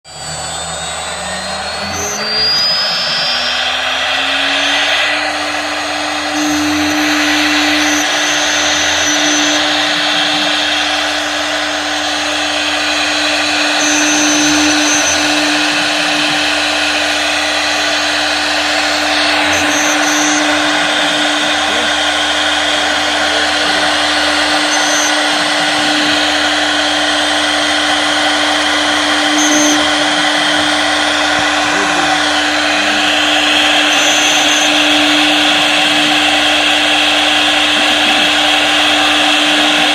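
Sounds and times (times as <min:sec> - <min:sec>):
router spindle whine: 0:00.0 - 0:39.9
hiss of bit cutting wood: 0:00.1 - 0:39.9.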